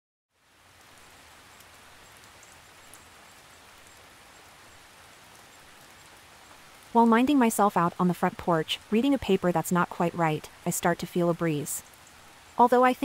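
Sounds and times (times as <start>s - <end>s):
soft steady rain: 0.3s - 13.0s.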